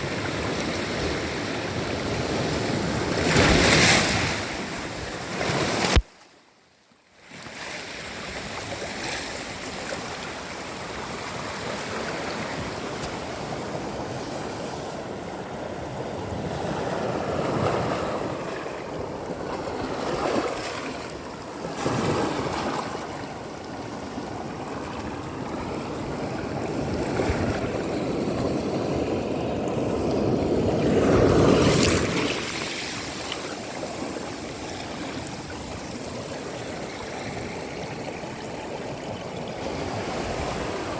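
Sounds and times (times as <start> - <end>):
waves washing onto sand: 7.3 - 40.9.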